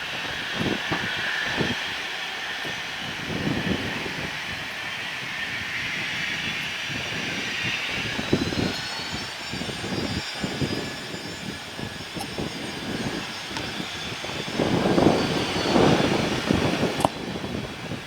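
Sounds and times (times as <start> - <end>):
high-pitched jet whine: 0.0 - 18.0
jet engine hiss: 0.0 - 18.0.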